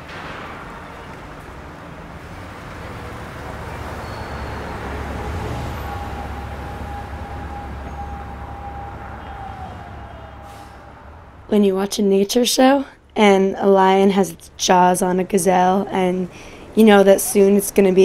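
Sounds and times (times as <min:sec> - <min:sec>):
faint steady whine: 0:00.0 - 0:18.0
passing vehicles rumbling: 0:00.0 - 0:18.0.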